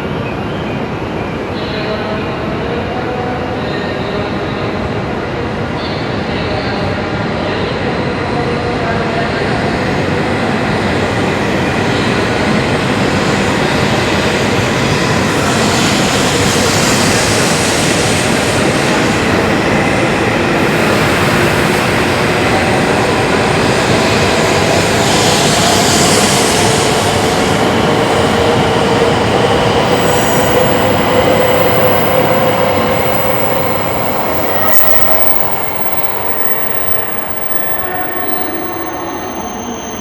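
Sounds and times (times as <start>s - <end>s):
high-speed train rushing past: 0.0s - 40.0s.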